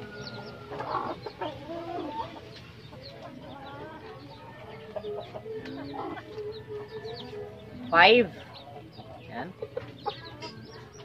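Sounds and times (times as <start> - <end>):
chicks cheeping: 0.0 - 11.0
hen clucking: 0.0 - 11.0.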